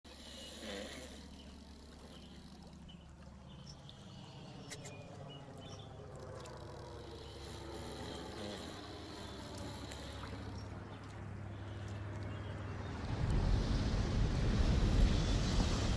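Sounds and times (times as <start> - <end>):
propeller airplane droning: 0.1 - 15.9.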